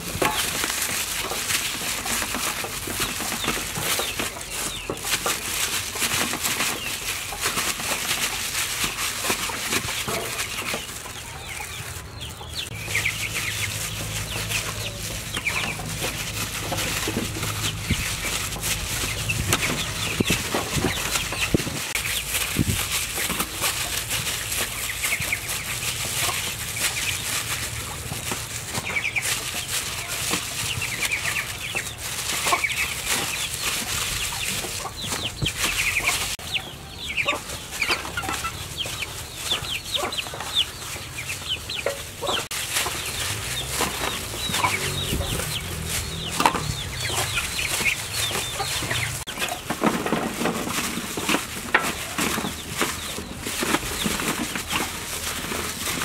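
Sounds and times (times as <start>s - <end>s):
plastic bag crinkling: 0.0s - 36.4s, 37.6s - 56.0s
chickens clucking: 0.0s - 56.0s.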